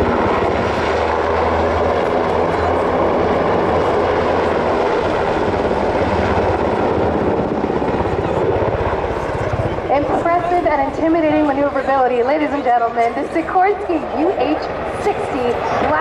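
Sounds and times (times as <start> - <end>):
helicopter rotor beat: 0.0 - 16.0
turbine engine noise: 0.0 - 16.0.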